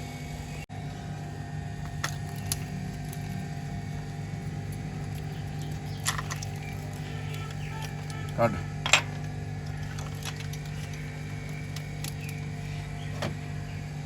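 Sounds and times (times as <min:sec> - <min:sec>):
car engine idling: 0:00.4 - 0:14.0.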